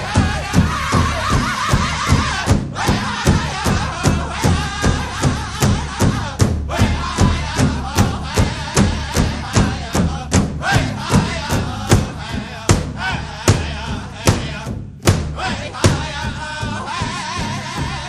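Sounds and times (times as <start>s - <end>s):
music with steady drumbeat: 0.0s - 18.0s.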